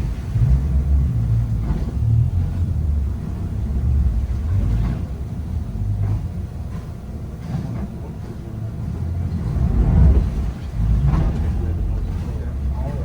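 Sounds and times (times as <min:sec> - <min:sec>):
outboard engines rumbling: 0:00.0 - 0:13.0.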